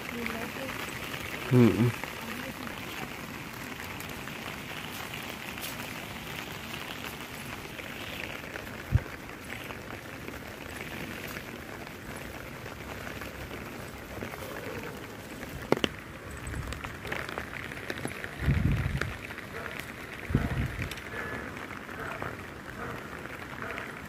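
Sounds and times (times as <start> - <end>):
light rain pattering on leaves: 0.0 - 24.0.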